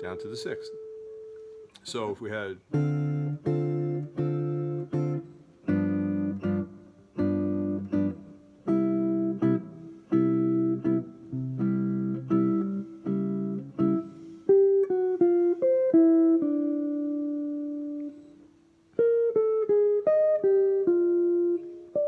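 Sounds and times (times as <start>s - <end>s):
guitar playing jazz chords: 0.0s - 22.0s.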